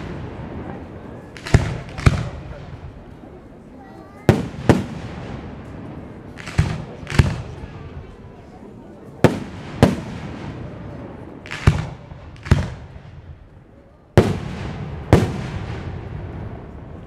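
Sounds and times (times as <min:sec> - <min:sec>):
firework bangs with echo: 0:00.0 - 0:03.2, 0:04.2 - 0:08.2, 0:09.2 - 0:17.0.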